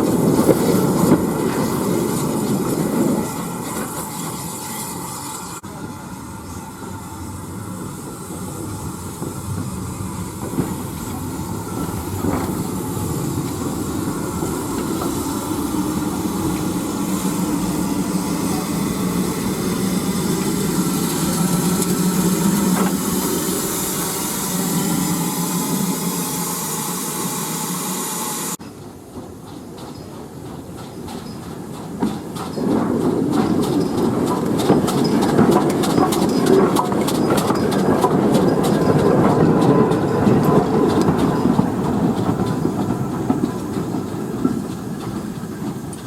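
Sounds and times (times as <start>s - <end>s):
steam hissing: 0.0s - 46.0s
steam train rumbling: 0.0s - 46.0s.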